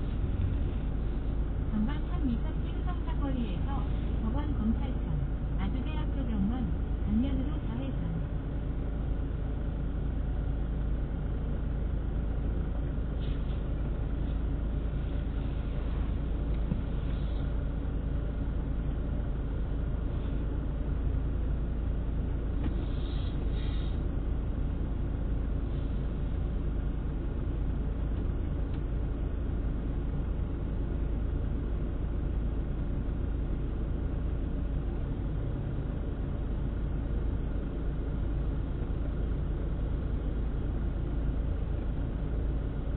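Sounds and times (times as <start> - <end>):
engine and road rumble: 0.0 - 42.9.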